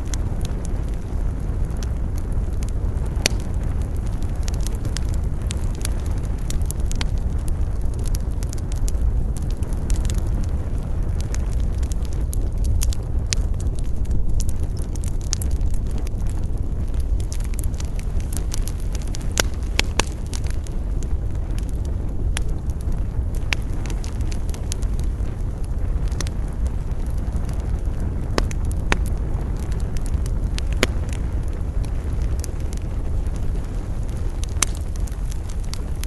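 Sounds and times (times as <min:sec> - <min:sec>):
campfire crackling and popping: 0:00.0 - 0:36.0
wind rumbling: 0:00.0 - 0:36.0.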